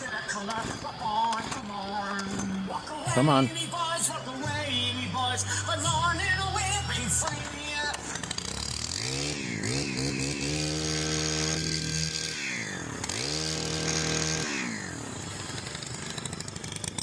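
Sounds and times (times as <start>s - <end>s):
small engine revving and idling: 0.0s - 17.0s.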